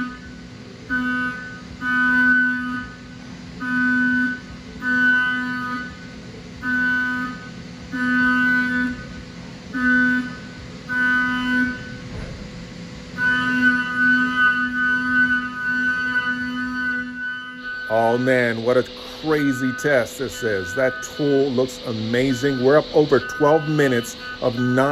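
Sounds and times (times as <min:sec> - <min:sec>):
milling cutter whine: 0:00.0 - 0:24.9.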